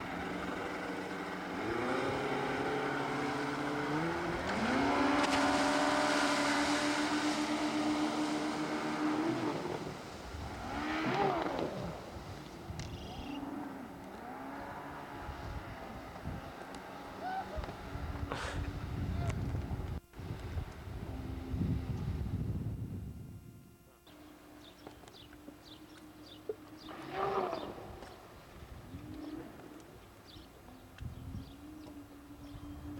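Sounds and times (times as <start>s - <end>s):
motorboat engine revving: 0.0s - 32.9s.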